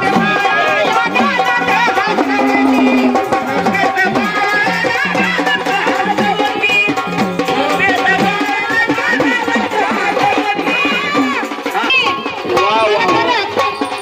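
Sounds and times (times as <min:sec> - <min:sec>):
rapid drumming: 0:00.0 - 0:14.0.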